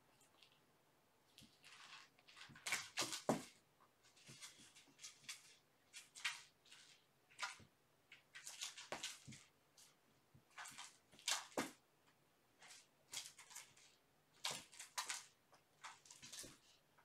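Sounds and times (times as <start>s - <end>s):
kitten scratching and pouncing: 1.3s - 11.8s, 12.6s - 16.8s.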